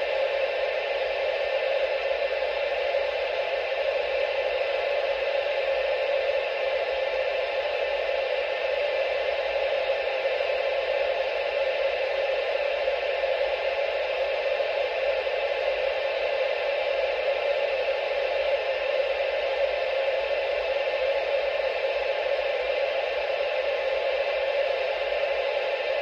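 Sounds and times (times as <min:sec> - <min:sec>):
television static hiss: 0:00.0 - 0:26.0.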